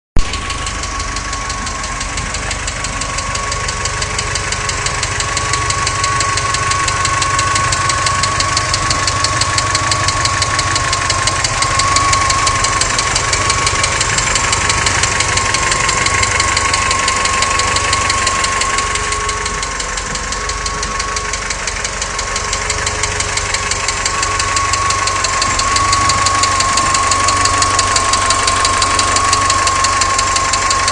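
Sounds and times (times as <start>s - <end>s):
car engine running: 0.2s - 30.9s
steady high whine: 0.2s - 30.9s.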